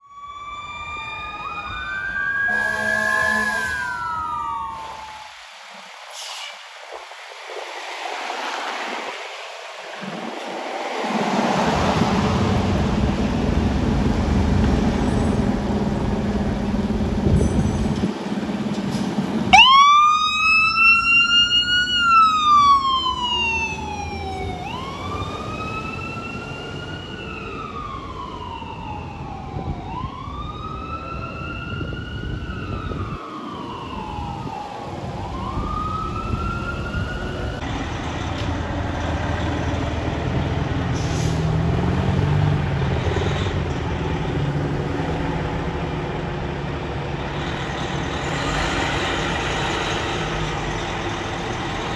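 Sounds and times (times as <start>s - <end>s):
fire engine siren wailing: 0.0s - 6.0s, 10.0s - 51.9s
heavy truck engine rumbling: 9.0s - 51.9s.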